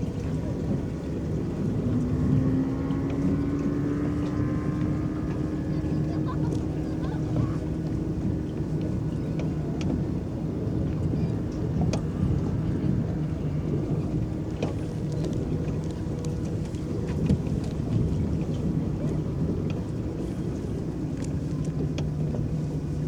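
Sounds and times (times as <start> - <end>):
water lapping against boat hull: 0.0 - 23.0.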